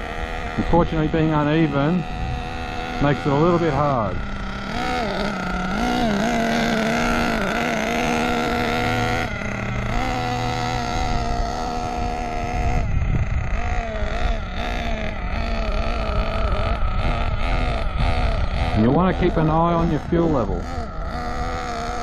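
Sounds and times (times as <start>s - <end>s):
model car engine running: 0.0s - 22.0s.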